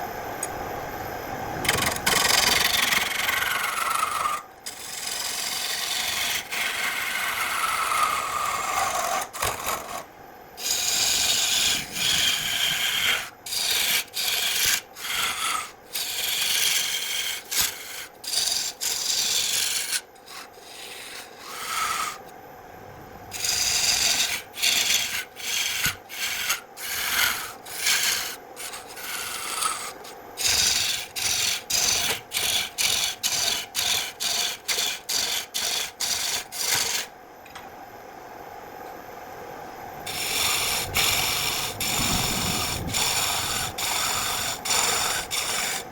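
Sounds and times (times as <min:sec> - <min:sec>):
wood being rasped by hand: 0:01.7 - 0:10.0, 0:10.6 - 0:22.3, 0:23.3 - 0:37.1, 0:40.1 - 0:45.9.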